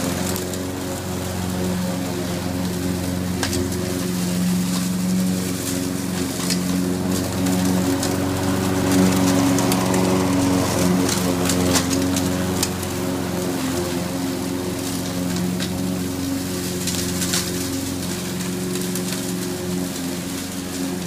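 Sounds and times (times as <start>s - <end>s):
lawn mower petrol engine running: 0.0s - 21.0s.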